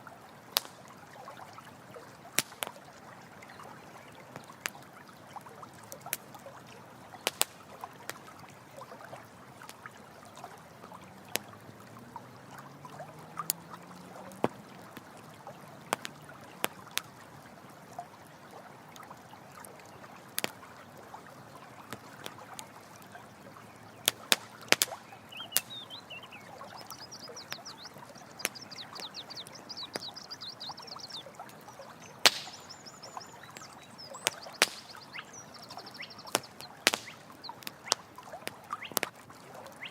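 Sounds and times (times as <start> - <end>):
running water: 0.0 - 39.9
campfire crackling and popping: 0.4 - 18.1, 19.6 - 39.9.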